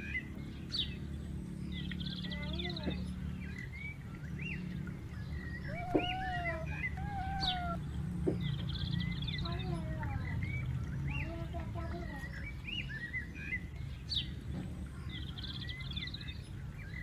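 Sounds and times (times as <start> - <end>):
birds chirping and trilling: 0.0 - 17.0
low background rumble: 0.0 - 17.0.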